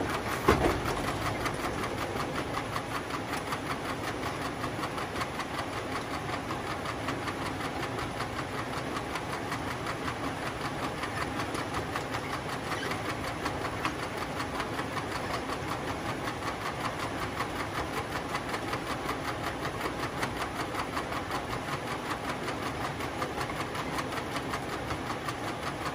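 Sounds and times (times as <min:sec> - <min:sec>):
conveyor belt clattering: 0:00.0 - 0:25.9.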